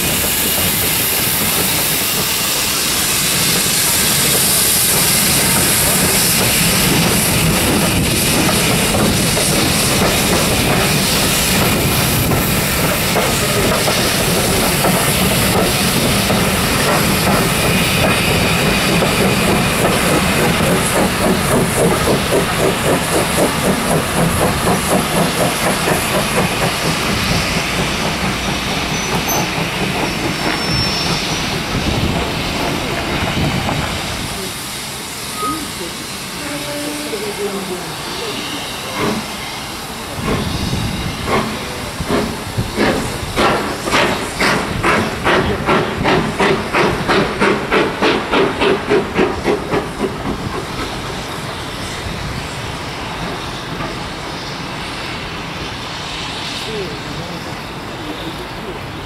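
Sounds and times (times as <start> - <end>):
loud hiss of steam: 0.0 - 59.0
steam train rhythmic chugging: 0.0 - 59.0.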